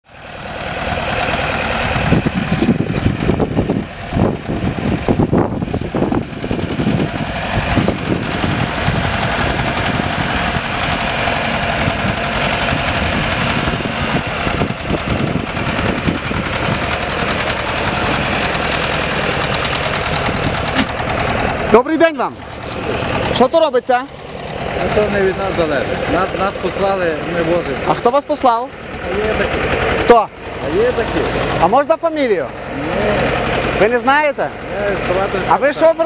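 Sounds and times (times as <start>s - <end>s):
truck engine idling: 0.0s - 36.0s.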